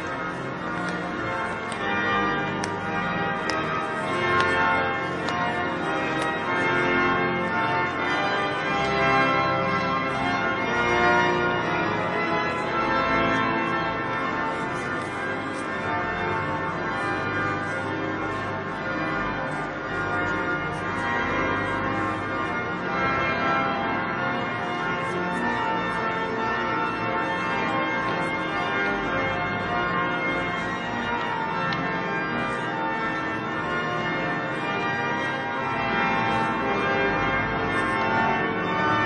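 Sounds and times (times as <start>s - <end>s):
church bells pealing: 0.0s - 39.0s.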